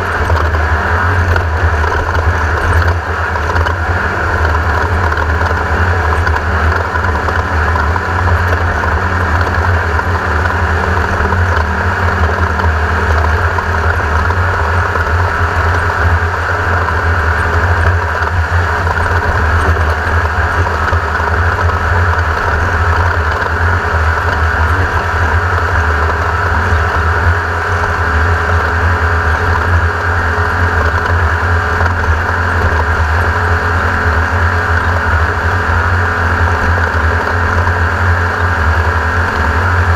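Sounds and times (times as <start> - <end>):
buggy engine under load: 0.0 - 39.9
chassis and terrain noise: 0.0 - 39.9.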